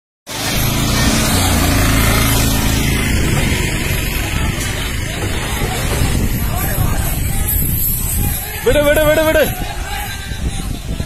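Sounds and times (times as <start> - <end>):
vehicle engine rumbling: 0.3 - 11.0.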